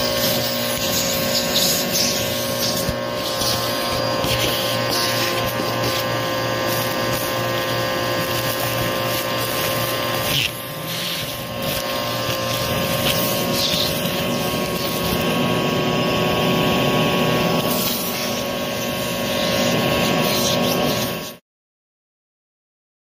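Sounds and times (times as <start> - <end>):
grit crunching up vacuum tool: 0.0 - 21.4
vacuum cleaner motor whine: 0.0 - 21.4.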